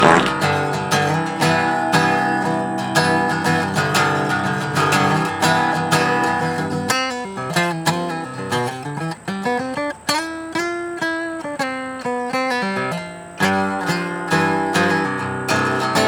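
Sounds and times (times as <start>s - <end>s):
guitar strummed and picked: 0.0s - 16.0s.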